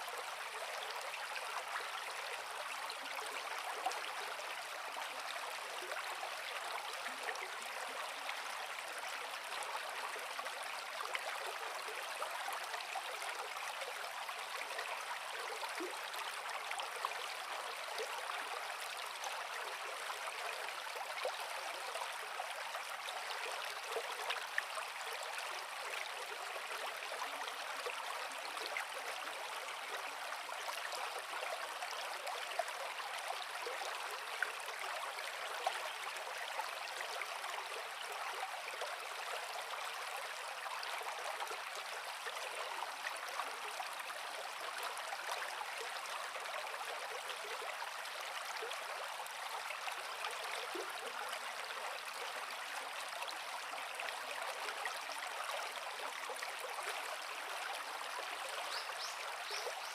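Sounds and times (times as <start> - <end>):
creek water flowing over rocks: 0.0 - 59.9.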